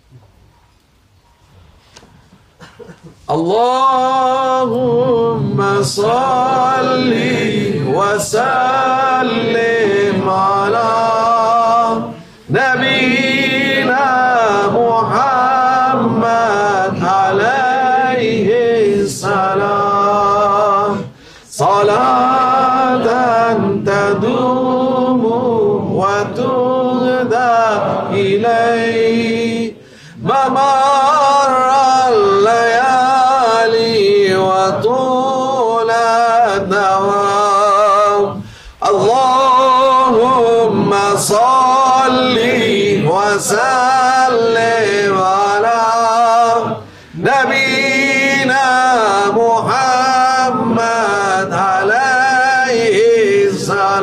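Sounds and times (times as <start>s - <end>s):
man chanting: 3.3s - 54.0s.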